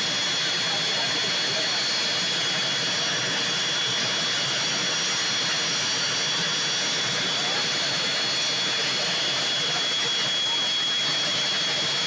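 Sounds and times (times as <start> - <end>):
aircraft turbine engine idling: 0.0 - 12.0.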